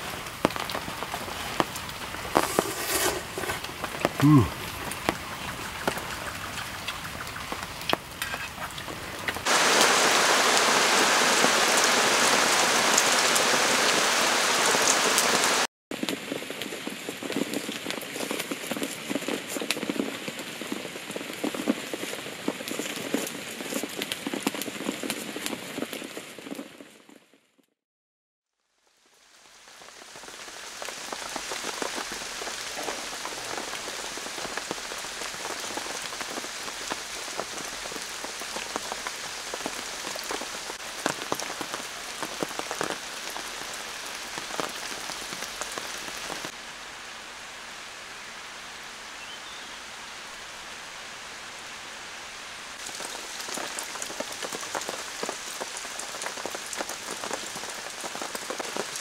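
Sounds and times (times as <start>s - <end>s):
steady rain with drop hits: 0.0s - 27.6s, 28.6s - 59.0s.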